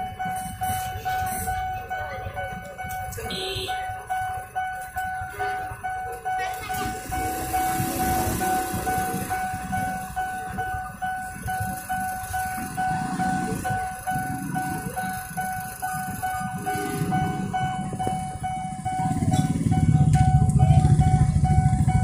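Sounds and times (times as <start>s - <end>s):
motorcycle engines running: 0.0s - 22.0s.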